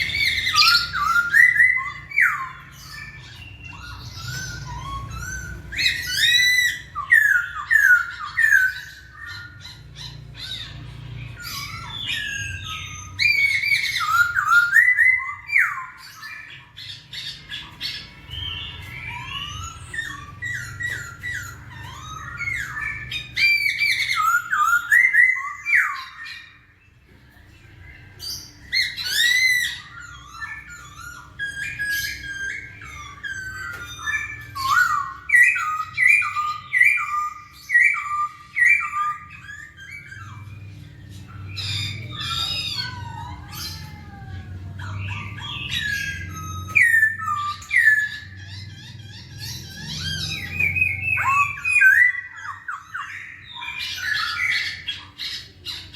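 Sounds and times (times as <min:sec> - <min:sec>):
bird singing whistled notes: 0:00.0 - 0:26.8, 0:27.6 - 0:43.9, 0:44.8 - 0:55.9
squawky bird calls: 0:00.0 - 0:55.9.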